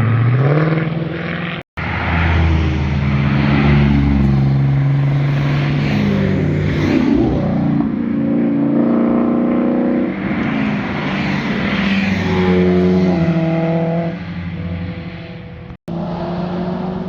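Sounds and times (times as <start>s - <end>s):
performance car engines passing: 0.0s - 17.0s.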